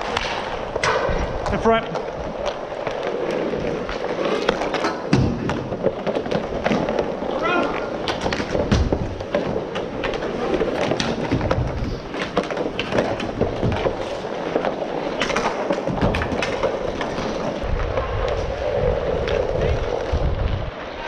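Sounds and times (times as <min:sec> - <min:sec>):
skate wheels rolling on plastic tiles: 0:00.0 - 0:21.0.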